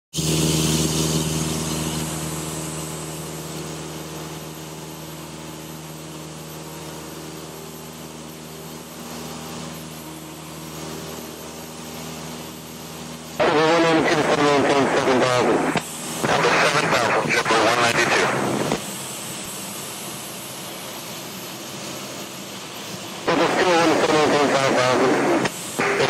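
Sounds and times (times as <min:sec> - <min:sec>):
airplane engine and propeller humming: 0:00.2 - 0:26.0.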